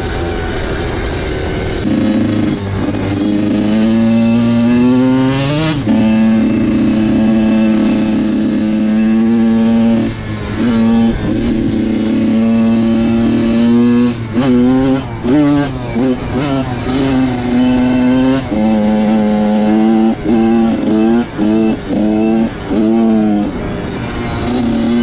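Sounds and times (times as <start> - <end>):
dirt bike engine under hard throttle: 0.0 - 25.0.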